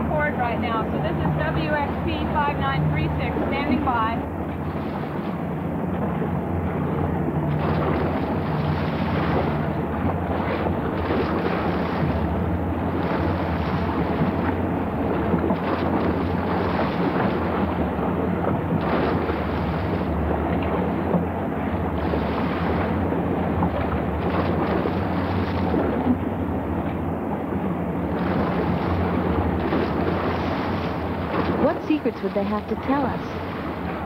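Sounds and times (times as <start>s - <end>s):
boat engine humming: 0.0s - 34.0s.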